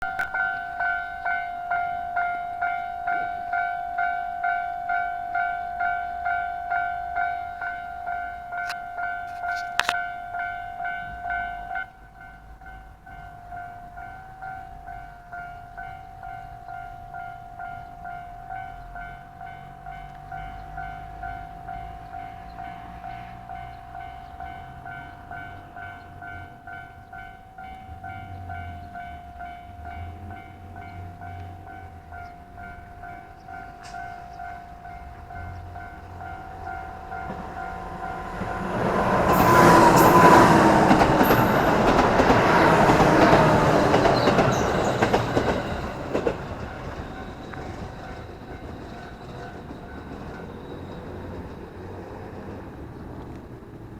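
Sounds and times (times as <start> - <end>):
level-crossing warning bell: 0.0 - 52.5
train rumble: 0.1 - 53.9.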